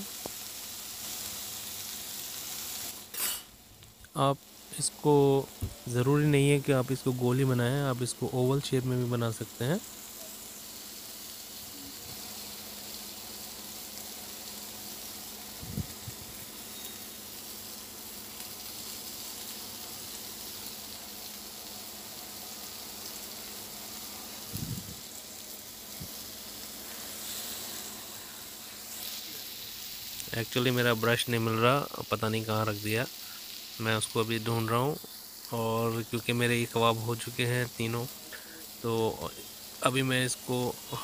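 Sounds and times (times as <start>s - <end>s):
meat patties sizzling on grill: 0.0s - 41.0s.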